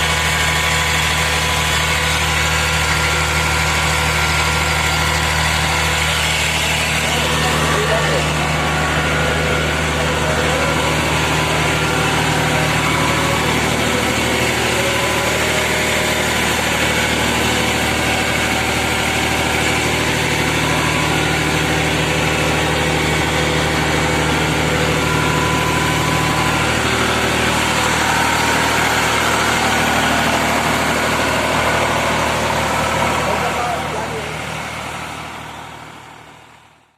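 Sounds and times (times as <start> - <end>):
tractor diesel engine idling: 0.0 - 36.9.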